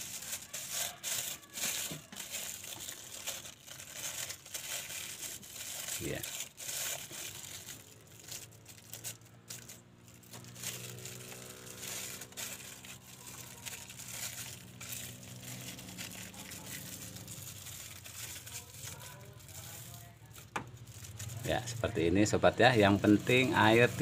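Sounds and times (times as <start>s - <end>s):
plastic wrap crinkling: 0.0s - 24.0s.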